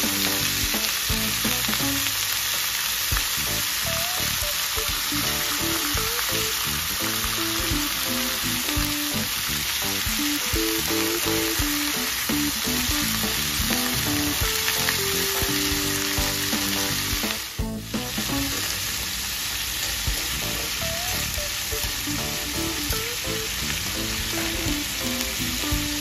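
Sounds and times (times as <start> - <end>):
background music: 0.0 - 2.2, 3.2 - 18.9, 20.0 - 26.0
prawns sizzling in oil: 0.0 - 26.0.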